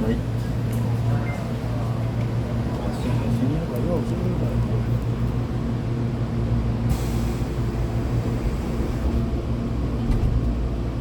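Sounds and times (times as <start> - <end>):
train motor and running noise: 0.0 - 11.0.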